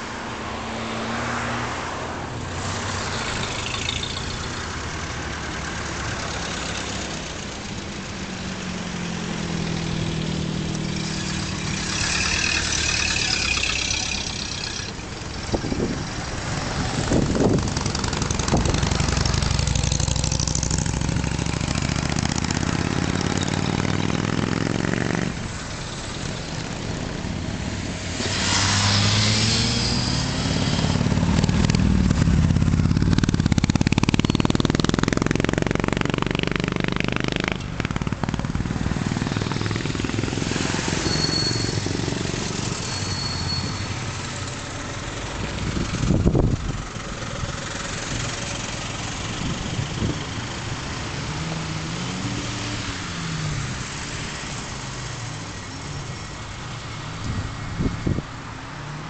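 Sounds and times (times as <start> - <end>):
vintage car engines driving past: 0.0 - 59.0.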